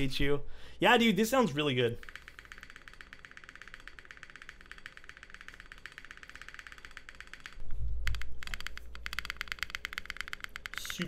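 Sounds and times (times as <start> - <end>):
mechanical keyboard typing: 2.0 - 11.0.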